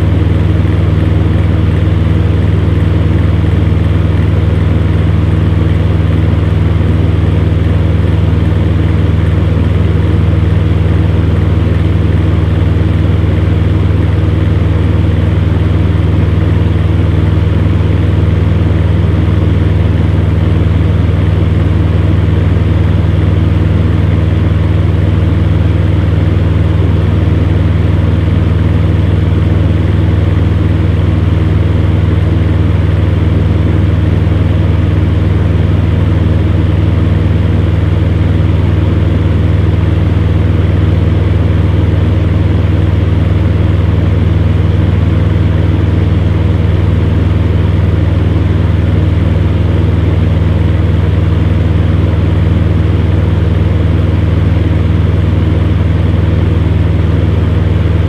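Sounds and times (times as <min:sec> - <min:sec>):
fan heater motor hum: 0:00.0 - 0:58.0.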